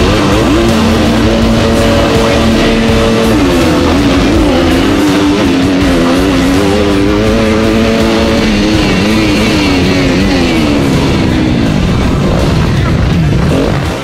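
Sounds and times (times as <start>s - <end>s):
motocross bike revving hard: 0.0s - 14.0s
rock guitar music: 0.0s - 14.0s.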